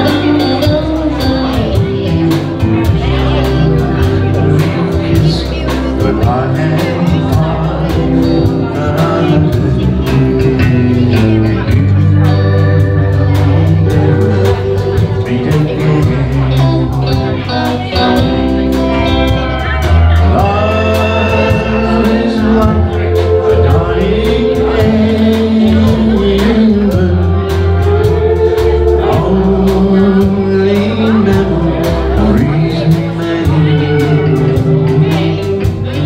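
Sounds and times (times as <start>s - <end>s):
live country band: 0.0s - 36.0s
man singing: 0.0s - 36.0s
pedal steel guitar: 0.0s - 36.0s.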